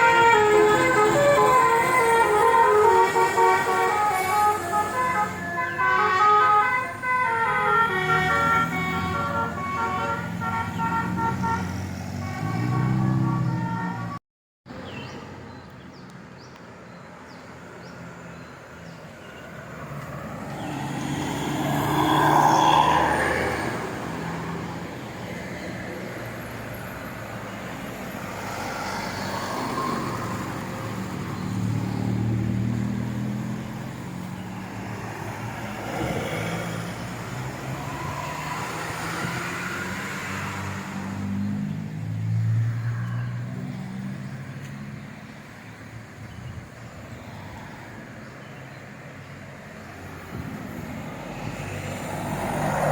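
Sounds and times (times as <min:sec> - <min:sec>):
vehicles driving past: 0:00.0 - 0:52.9.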